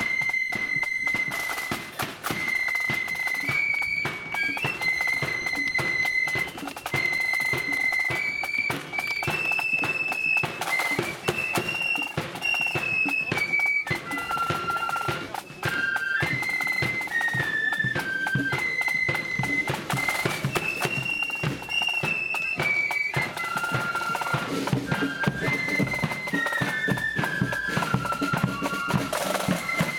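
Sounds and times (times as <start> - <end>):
flutes playing melody: 0.0 - 29.9
steady drum beats: 0.0 - 29.9.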